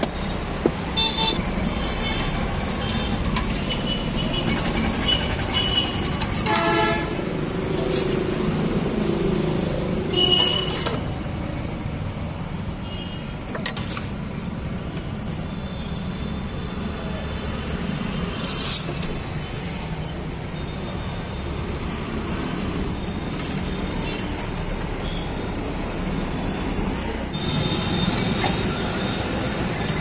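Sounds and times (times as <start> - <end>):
street traffic noise: 0.0 - 30.0.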